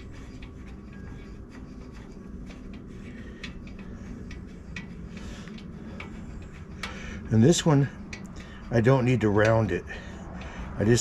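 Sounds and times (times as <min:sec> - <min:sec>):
steady low hum: 0:00.0 - 0:11.0
tools clicking and rubbing: 0:00.0 - 0:11.0.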